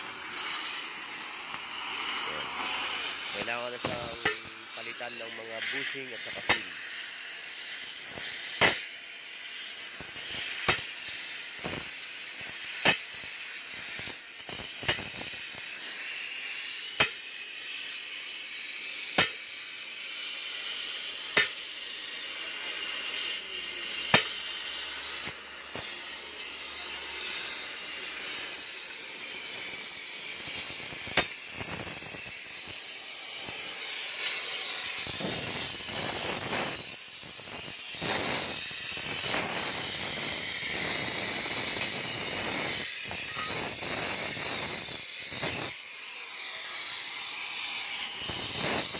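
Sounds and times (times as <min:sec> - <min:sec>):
cutting torch hissing: 0:00.0 - 0:48.9.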